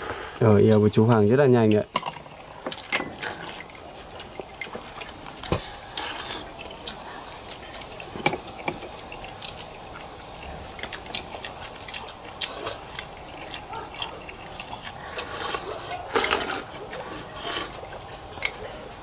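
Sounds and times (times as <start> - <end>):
broth liquid sounds: 1.6 - 19.0
utensils clicking on bowls: 1.8 - 19.0.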